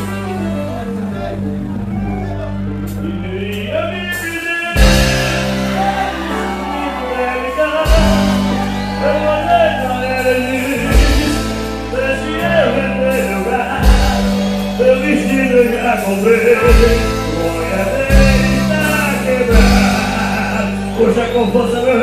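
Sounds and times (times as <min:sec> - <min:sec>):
band playing: 0:00.0 - 0:22.0
held bass notes: 0:00.0 - 0:22.0.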